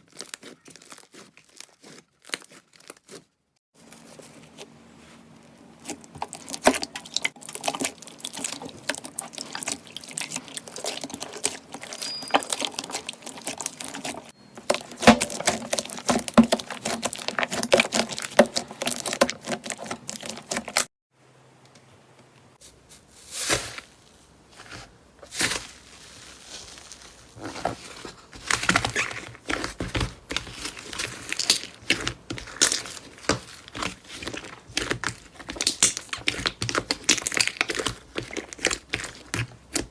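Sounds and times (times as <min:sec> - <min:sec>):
slime squishing by hand: 0:00.0 - 0:20.9, 0:22.8 - 0:39.9.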